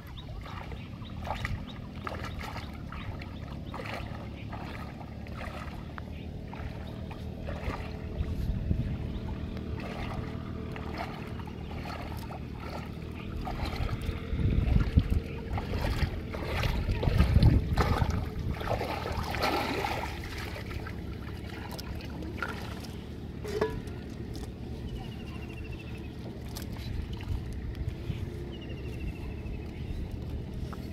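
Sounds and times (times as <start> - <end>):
legs wading through water: 0.0 - 30.9
water splashing and sloshing: 0.0 - 30.9.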